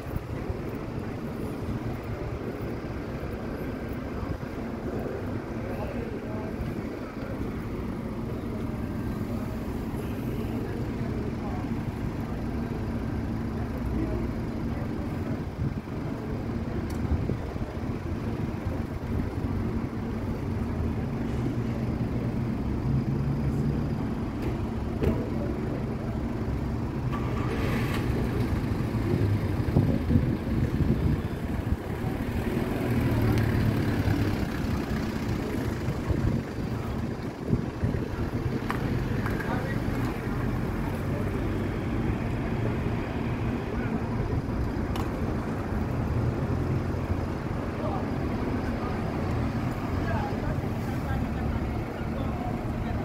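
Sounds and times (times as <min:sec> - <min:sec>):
cars rumbling past: 0:00.0 - 0:53.0.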